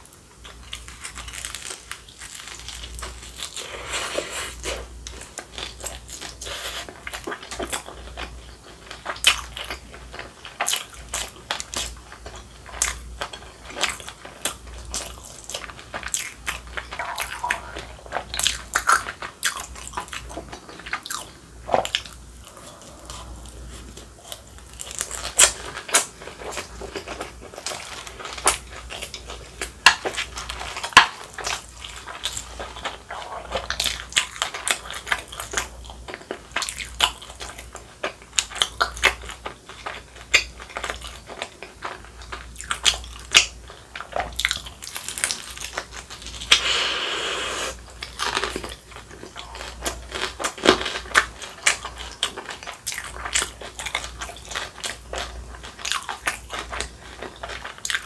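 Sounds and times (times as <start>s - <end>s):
crunchy chewing: 0.0s - 58.0s.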